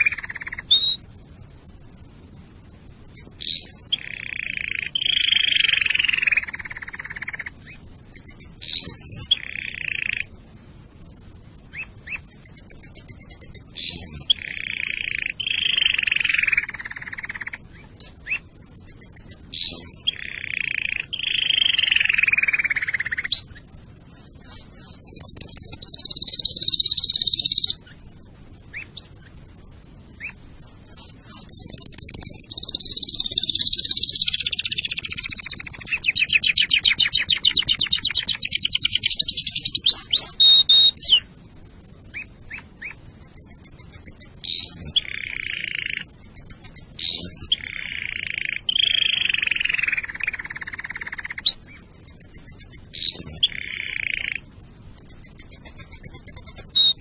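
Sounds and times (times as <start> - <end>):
canary singing: 0.0 - 1.1, 2.9 - 41.4, 42.0 - 57.0.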